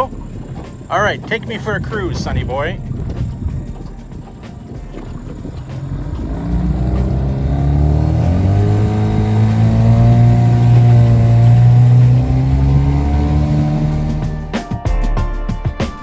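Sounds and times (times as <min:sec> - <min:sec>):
motorboat engine running: 0:00.0 - 0:14.8.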